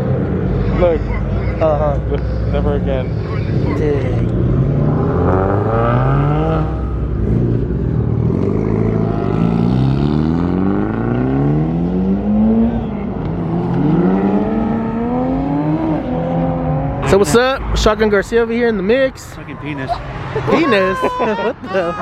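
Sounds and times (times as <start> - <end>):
car engines accelerating hard: 0.0 - 22.0.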